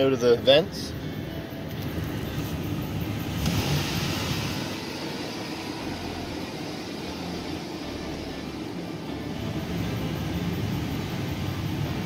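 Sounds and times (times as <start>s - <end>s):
car engine revving to fast idle: 0.9s - 12.0s.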